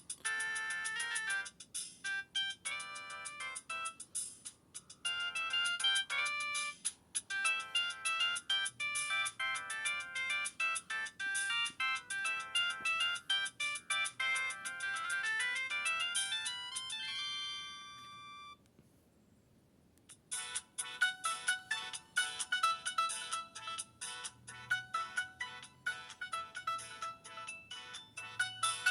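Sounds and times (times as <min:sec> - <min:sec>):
electronic phone ringtone: 0:00.2 - 0:04.4, 0:05.0 - 0:18.6, 0:20.3 - 0:28.9.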